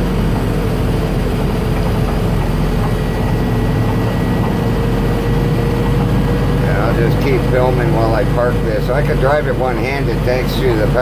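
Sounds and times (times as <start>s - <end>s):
cab heater blowing: 0.0s - 11.0s
truck engine humming with whine: 0.0s - 11.0s.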